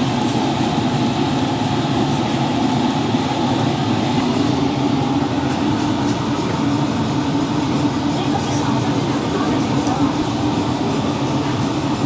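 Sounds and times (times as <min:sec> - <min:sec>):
crowded street market hubbub: 0:00.0 - 0:12.0.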